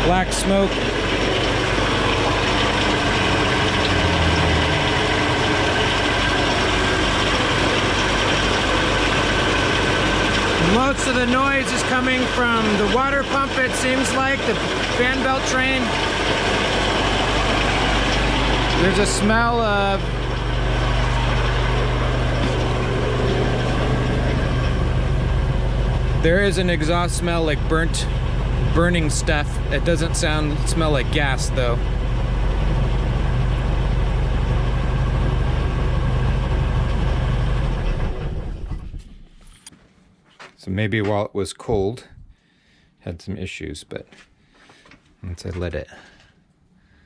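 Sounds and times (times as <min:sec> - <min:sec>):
car engine idling: 0:00.0 - 0:39.6.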